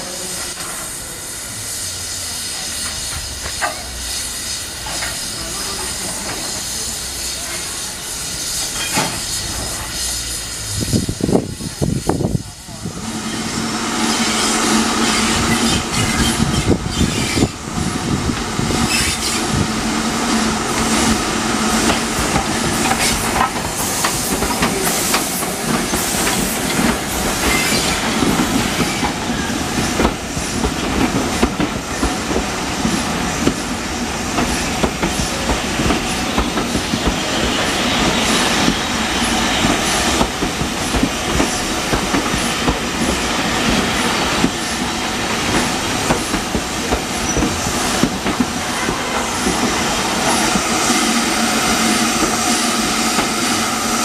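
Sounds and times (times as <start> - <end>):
train wheels on rail: 0.0 - 54.0.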